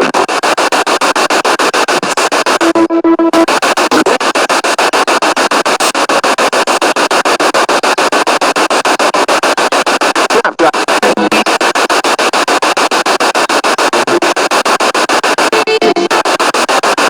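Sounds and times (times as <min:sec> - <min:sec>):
stuttering radio static: 0:00.0 - 0:17.0.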